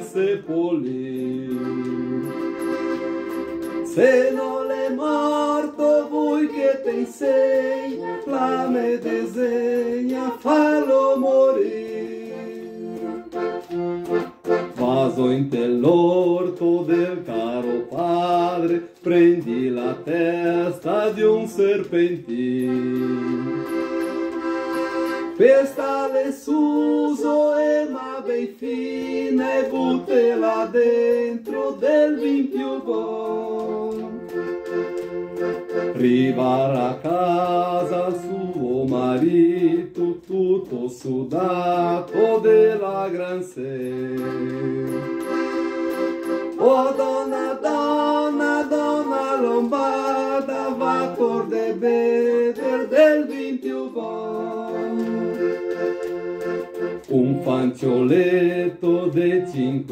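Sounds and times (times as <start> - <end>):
man and woman singing: 0.0 - 2.4, 3.8 - 13.8, 14.7 - 23.7, 25.3 - 34.4, 35.9 - 45.2, 46.5 - 55.7, 57.0 - 59.9
accordion playing: 0.0 - 59.9.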